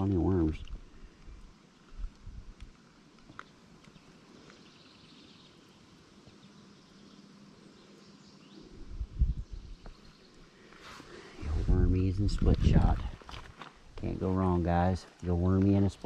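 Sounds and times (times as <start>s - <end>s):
flowing water hiss: 0.0s - 16.0s.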